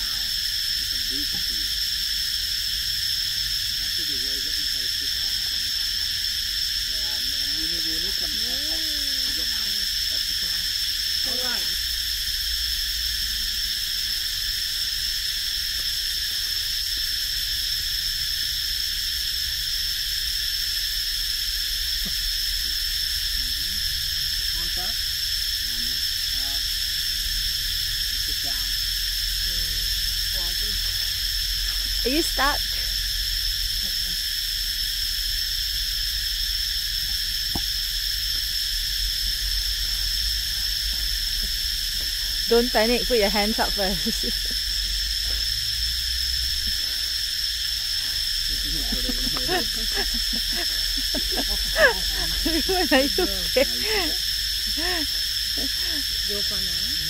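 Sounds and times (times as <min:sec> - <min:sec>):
cicadas droning: 0:00.0 - 0:57.0
shrill insect chorus: 0:00.0 - 0:57.0.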